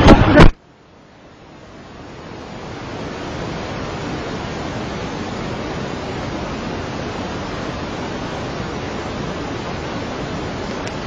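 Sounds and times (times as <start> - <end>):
floodwater rushing: 0.0 - 11.0
heavy rain: 0.0 - 11.0.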